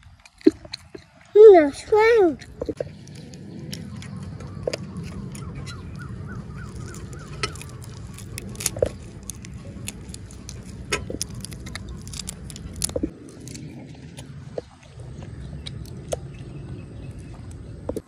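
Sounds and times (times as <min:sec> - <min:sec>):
low rumble: 0:02.4 - 0:18.0
prawn shell crackling and snapping: 0:02.4 - 0:18.0.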